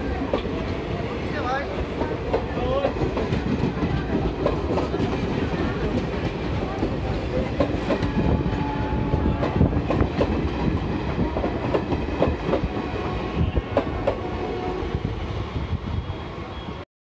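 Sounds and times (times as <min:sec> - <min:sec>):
train wheels rumbling on rails: 0:00.0 - 0:16.8.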